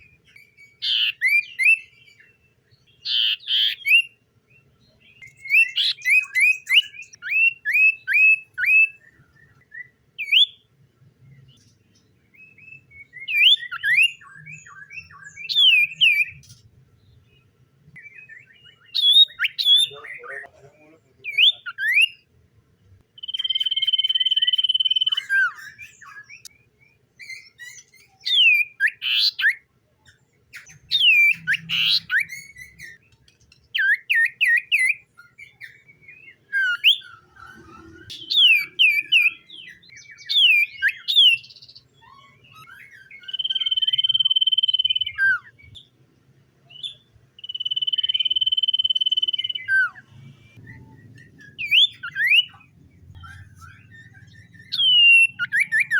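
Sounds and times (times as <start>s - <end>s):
bird whistling: 0.0s - 2.3s, 3.0s - 4.2s, 5.2s - 10.7s, 12.3s - 16.5s, 18.0s - 20.4s, 21.3s - 22.2s, 23.2s - 29.6s, 30.5s - 33.0s, 33.8s - 45.9s, 46.7s - 55.9s
bird chirps: 0.0s - 55.9s.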